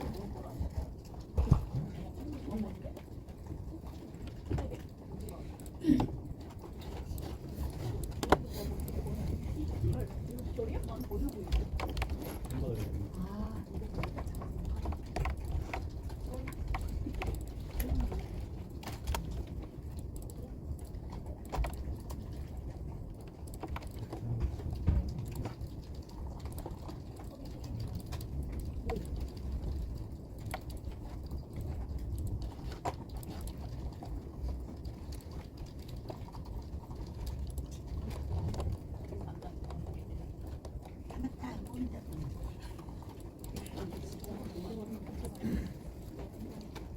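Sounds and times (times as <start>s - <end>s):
low steady hum: 0.0s - 46.9s
computer keyboard typing: 7.9s - 46.9s.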